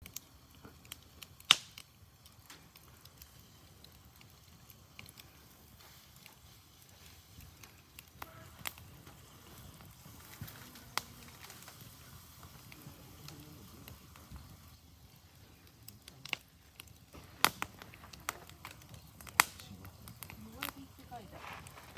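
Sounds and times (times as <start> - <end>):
campfire crackles and pops: 0.0 - 21.9
campfire hissing: 0.0 - 21.9.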